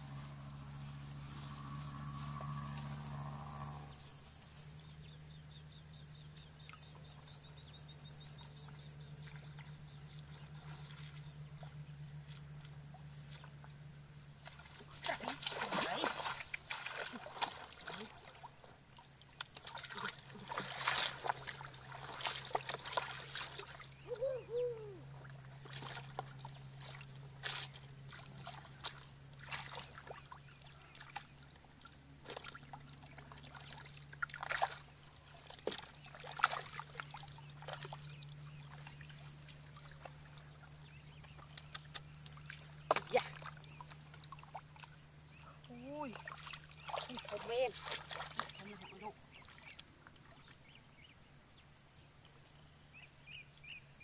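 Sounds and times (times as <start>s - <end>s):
splashing in shallow muddy water: 0.0s - 51.4s.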